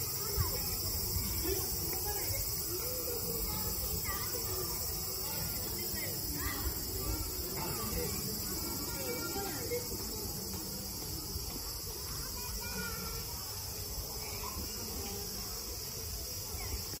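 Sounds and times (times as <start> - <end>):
insect chorus chirring: 0.0 - 17.0.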